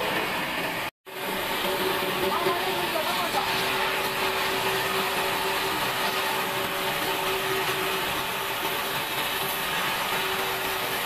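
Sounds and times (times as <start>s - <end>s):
band saw cutting wood: 0.0s - 11.0s.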